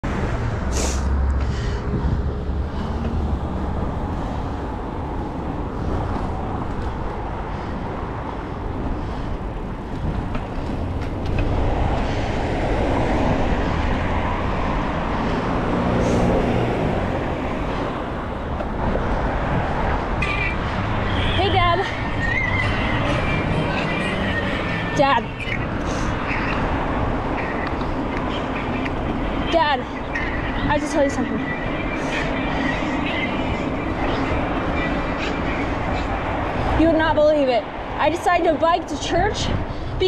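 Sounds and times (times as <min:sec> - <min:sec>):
road traffic: 0:00.0 - 0:40.0
wind rushing over microphone: 0:00.0 - 0:40.0.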